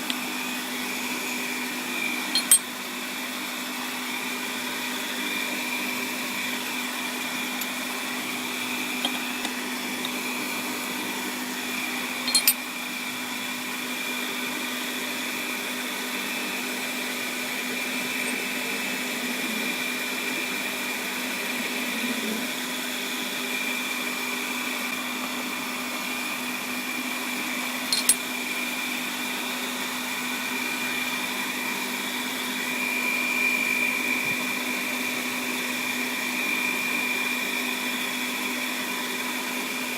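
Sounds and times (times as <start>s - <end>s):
lathe motor whine: 0.0s - 39.9s.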